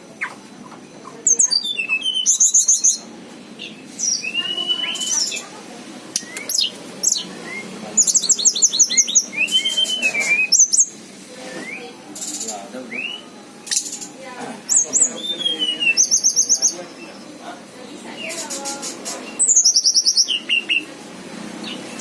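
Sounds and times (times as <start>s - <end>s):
flycatcher singing: 0.2s - 5.5s, 6.2s - 17.4s, 18.0s - 20.9s.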